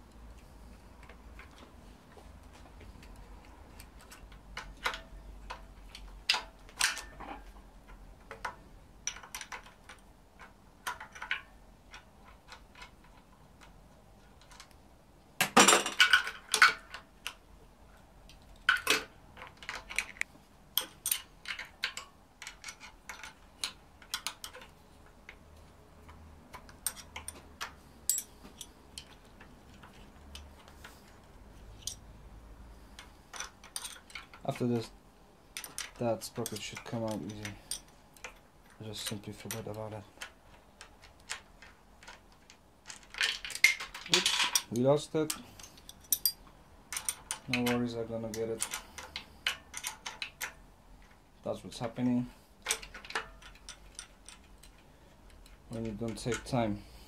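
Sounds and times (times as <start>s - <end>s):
wrenches clinking on metal parts: 3.7s - 14.7s, 15.4s - 17.4s, 18.6s - 25.4s, 26.0s - 32.1s, 32.9s - 34.9s, 35.5s - 56.9s.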